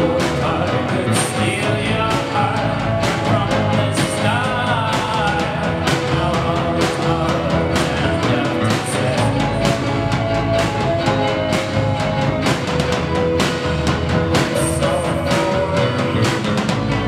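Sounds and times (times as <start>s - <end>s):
drum kit: 0.0s - 17.0s
electric guitars: 0.0s - 17.0s.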